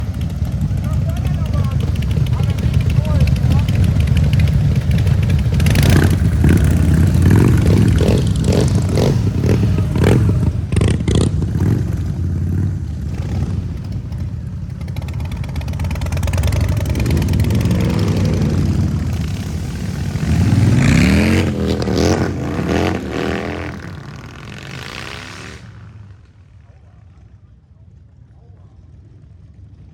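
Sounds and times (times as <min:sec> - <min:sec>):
motorcycle exhaust rumbling with revs: 0:00.0 - 0:29.9.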